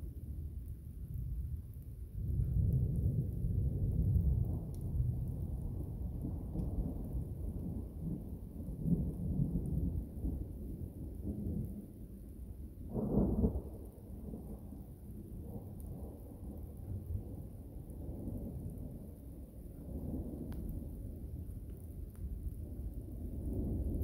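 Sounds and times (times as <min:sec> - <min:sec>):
thunder rumbling: 0:00.0 - 0:24.0.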